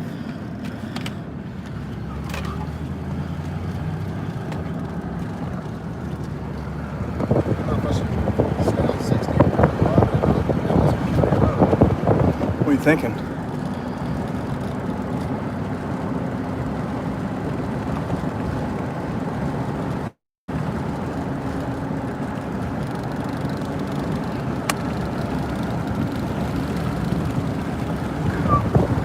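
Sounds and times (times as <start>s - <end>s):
vehicle road and engine noise: 0.0s - 29.0s.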